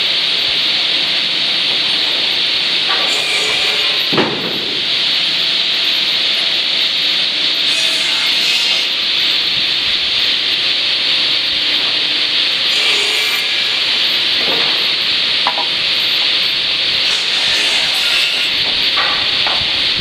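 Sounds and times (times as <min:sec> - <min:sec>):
lumber saw hissing: 0:00.0 - 0:20.0.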